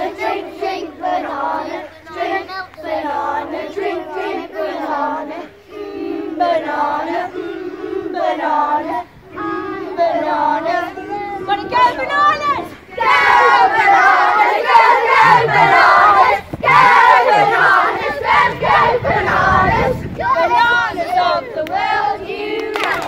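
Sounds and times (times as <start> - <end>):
children singing together: 0.0 - 23.0.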